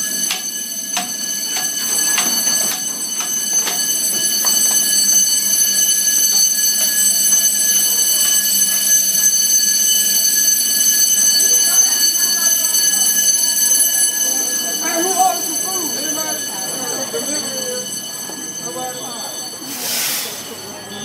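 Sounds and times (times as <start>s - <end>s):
fire alarm high-pitched tone: 0.0s - 21.0s.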